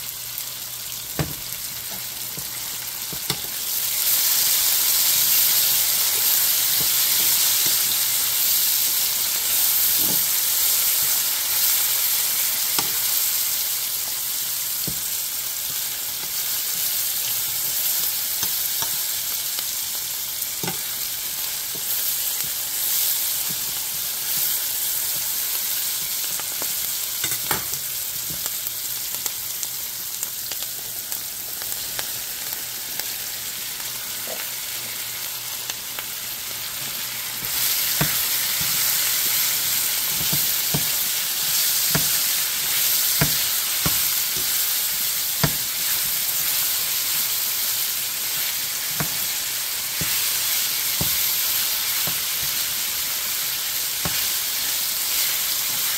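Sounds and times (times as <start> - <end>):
vegetables sizzling in a pan: 0.0 - 55.9.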